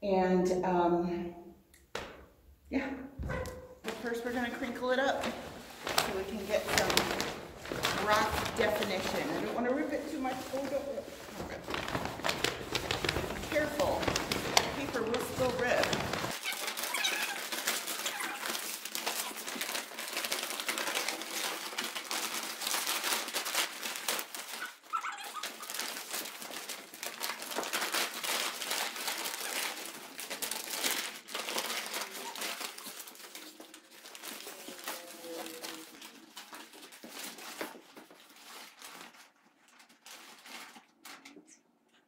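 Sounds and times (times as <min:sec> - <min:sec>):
paper crumpling: 0:03.3 - 0:41.5.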